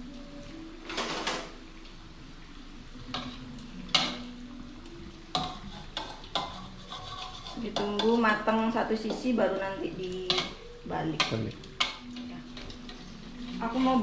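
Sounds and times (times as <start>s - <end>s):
fritters sizzling in hot oil: 2.2s - 14.0s.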